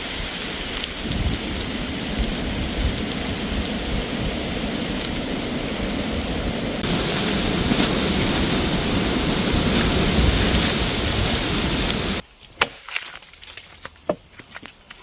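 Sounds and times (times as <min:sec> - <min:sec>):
storm rushing noise: 0:00.0 - 0:12.2.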